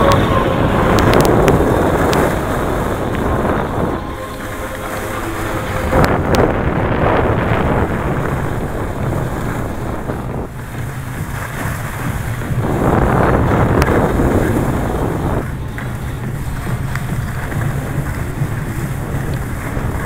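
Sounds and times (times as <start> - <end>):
snow scraping underneath: 0.0 - 20.0
wind rushing over microphone: 0.0 - 20.0.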